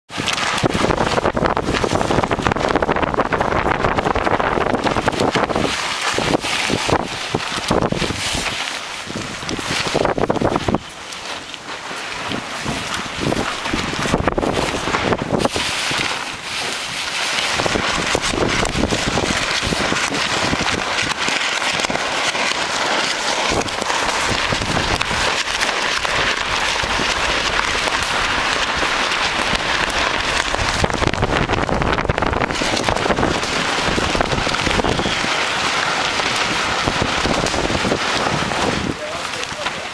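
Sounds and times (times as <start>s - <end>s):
gusty wind buffeting microphone: 0.1s - 10.9s, 12.2s - 39.2s
house wrap crackling and flapping: 0.1s - 39.9s.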